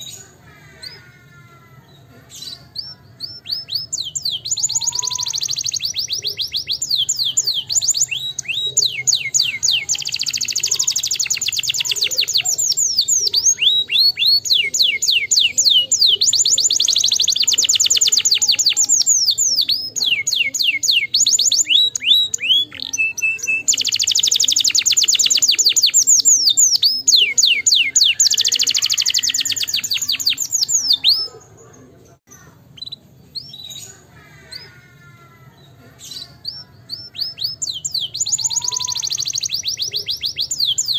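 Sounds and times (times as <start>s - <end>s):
canary singing trills: 0.0s - 40.9s
bird chirps: 1.9s - 34.9s, 35.5s - 40.9s.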